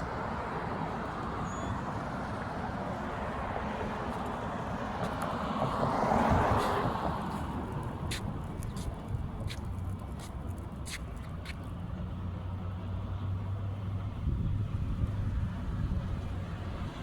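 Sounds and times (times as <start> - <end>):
outdoor street noise: 0.0 - 17.0
vehicle passing by: 0.0 - 17.0.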